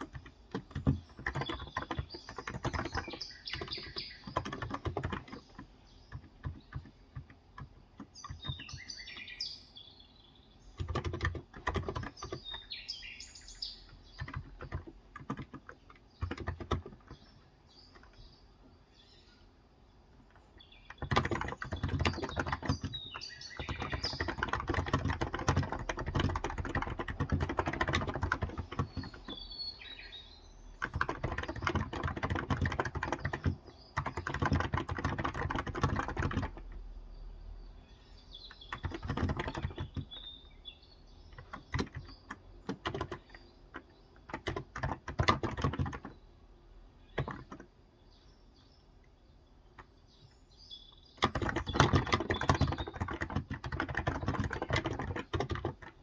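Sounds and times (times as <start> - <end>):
typing on keyboard: 0.0 - 9.4, 10.7 - 12.8, 13.6 - 18.3, 20.2 - 37.0, 38.4 - 40.5, 41.2 - 46.2, 47.1 - 47.8, 49.7 - 50.4, 51.2 - 56.0
small birds chirping: 0.0 - 56.0.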